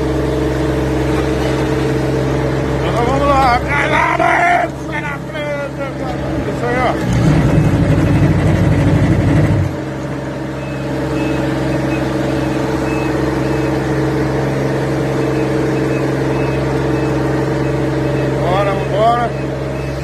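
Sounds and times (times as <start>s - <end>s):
road roller engine running: 0.0s - 20.0s.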